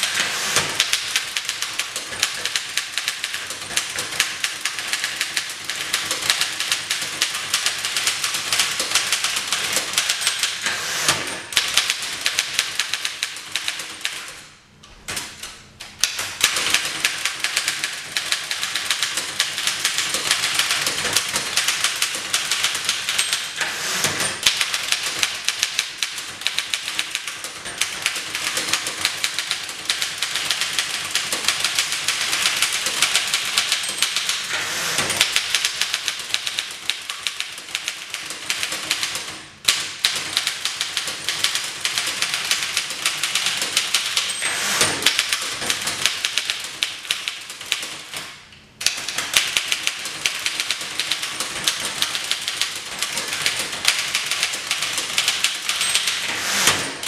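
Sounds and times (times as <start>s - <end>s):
manual typewriter clatter: 0.0s - 57.0s.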